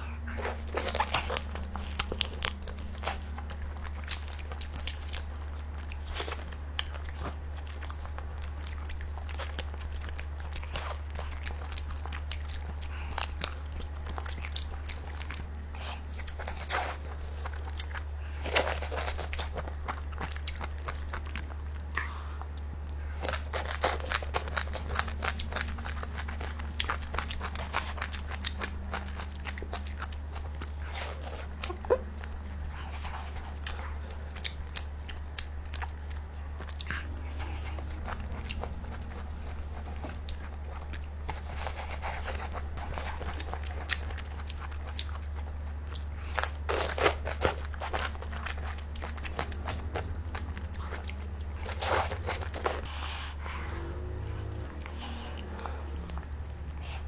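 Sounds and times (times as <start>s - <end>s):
chewing and crunching: 0.0s - 57.0s
steady low hum: 0.0s - 57.0s.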